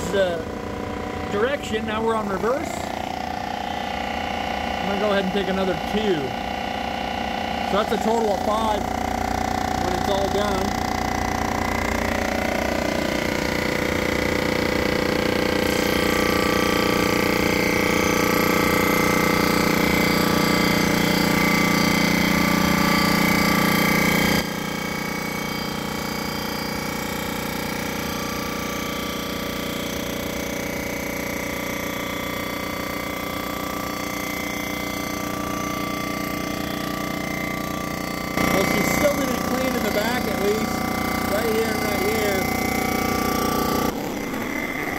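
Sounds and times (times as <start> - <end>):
surfacing machine humming: 0.0 - 44.9.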